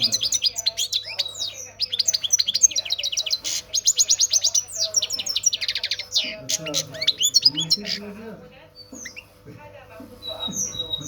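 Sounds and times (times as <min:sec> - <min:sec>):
bird twittering and trilling: 0:00.0 - 0:09.4, 0:10.1 - 0:11.0.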